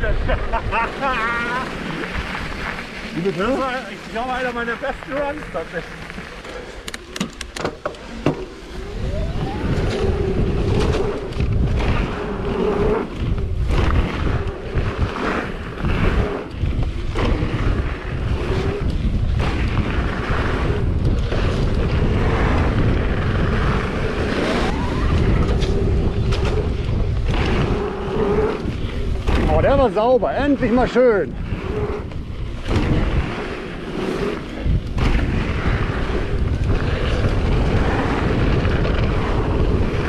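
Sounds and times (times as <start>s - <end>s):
wind buffeting microphone: 0.0s - 40.0s
tyres rolling over dirt: 0.1s - 40.0s.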